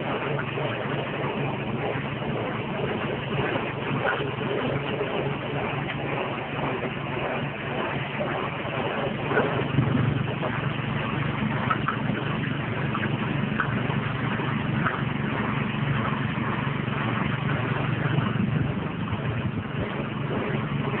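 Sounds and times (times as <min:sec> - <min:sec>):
grinding machine engine hum: 0:00.0 - 0:21.0.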